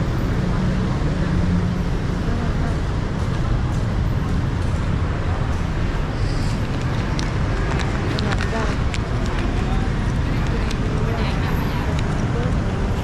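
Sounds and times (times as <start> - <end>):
faint voices: 0.0 - 13.0
traffic rumble: 0.0 - 13.0.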